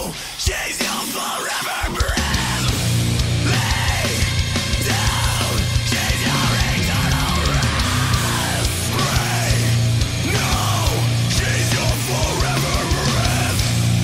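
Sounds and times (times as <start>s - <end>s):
distorted guitars: 0.0s - 14.0s
fast heavy drumming: 0.0s - 14.0s.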